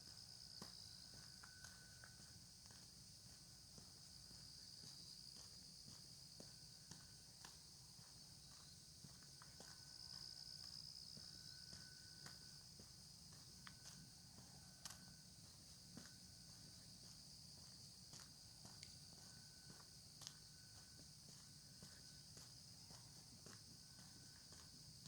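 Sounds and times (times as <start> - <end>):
high-pitched insect chorus: 0.0 - 25.0
soft footsteps: 0.1 - 24.9.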